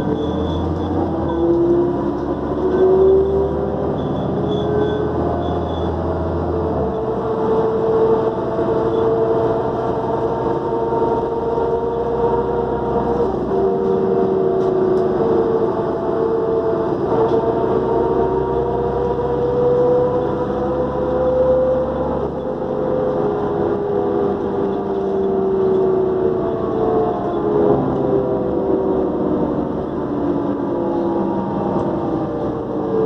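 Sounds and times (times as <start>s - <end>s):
bus engine rumbling: 0.0s - 33.0s.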